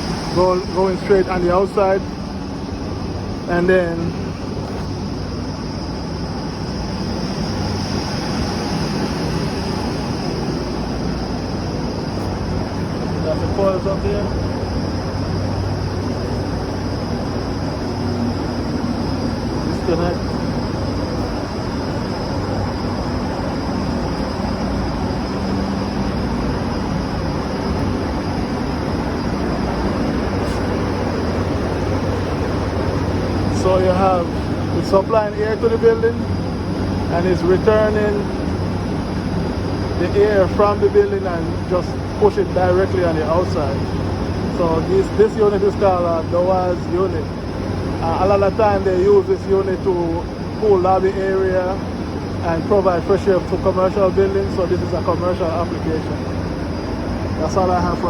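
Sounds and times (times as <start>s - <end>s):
faint high whine: 0.0s - 58.0s
fan-driven air rushing: 0.0s - 58.0s.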